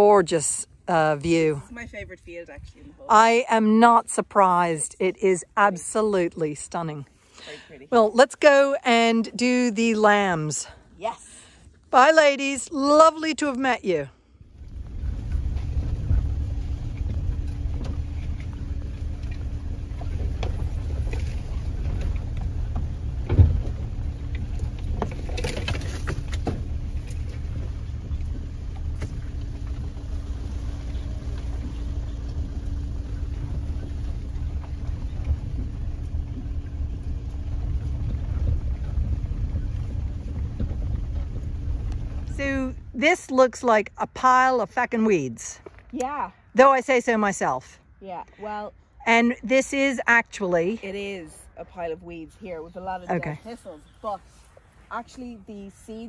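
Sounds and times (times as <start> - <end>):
engine and tyre rumble on gravel: 0.0 - 56.0.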